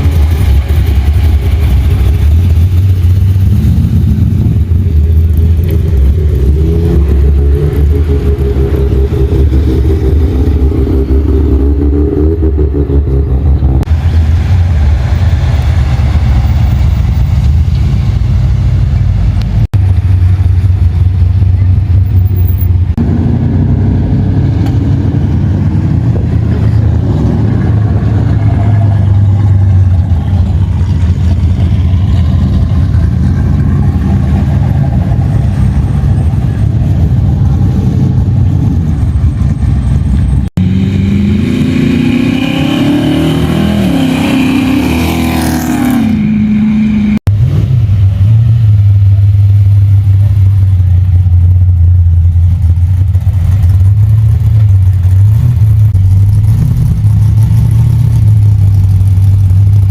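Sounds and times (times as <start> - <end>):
engine revving: 0.0 - 18.2, 19.0 - 59.9
car engines rumbling: 0.0 - 59.9.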